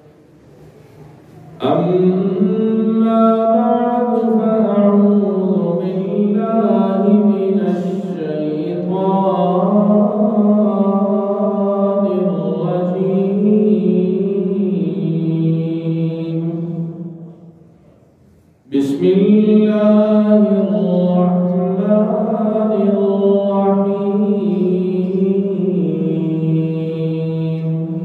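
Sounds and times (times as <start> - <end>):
man chanting melodic recitation: 1.4 - 17.4, 18.7 - 28.0.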